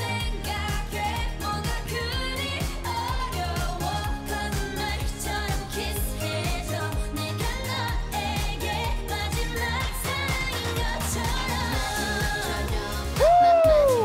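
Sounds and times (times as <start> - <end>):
pop song with sung vocals: 0.0 - 14.0.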